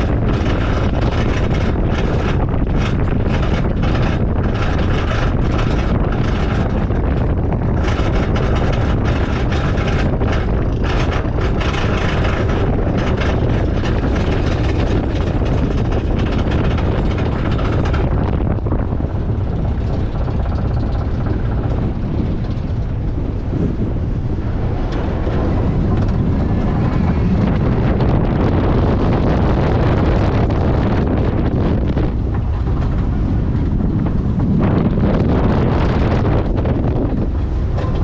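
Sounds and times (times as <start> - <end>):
low rumble: 0.0 - 38.0
roller coaster chain lift clicking: 0.0 - 38.0
wind on microphone: 0.0 - 38.0.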